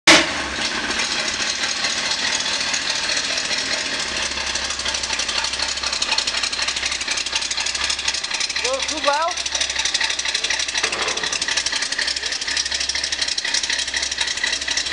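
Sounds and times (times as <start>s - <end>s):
car engine idling: 0.1s - 14.9s.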